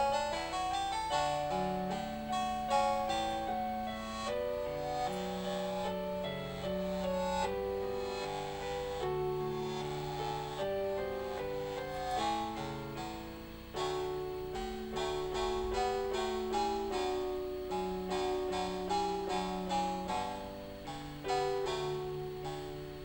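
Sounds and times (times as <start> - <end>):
plucked chiptune classical piece: 0.0 - 23.0.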